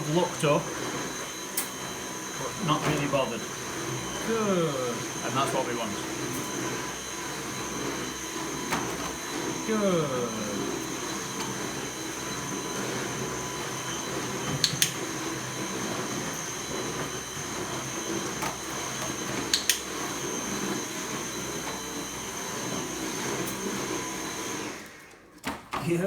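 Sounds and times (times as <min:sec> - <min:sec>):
vacuum cleaner running: 0:00.0 - 0:25.3.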